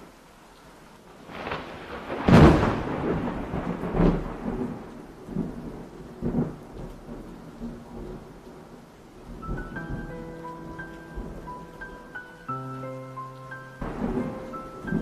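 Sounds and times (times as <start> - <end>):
thunder rumbling and cracking: 1.2 - 12.0, 13.8 - 15.0.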